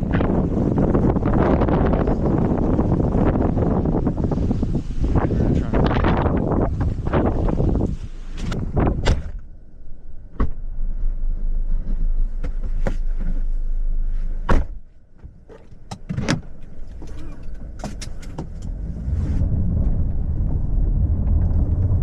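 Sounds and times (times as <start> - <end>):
car rumble: 0.0 - 22.0.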